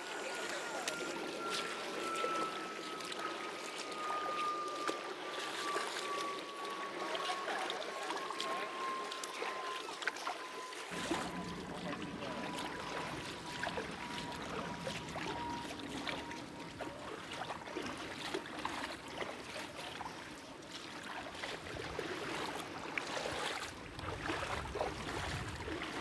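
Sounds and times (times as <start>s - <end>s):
thin tone sinking in pitch: 0.0s - 26.0s
water trickling over sand: 0.0s - 26.0s.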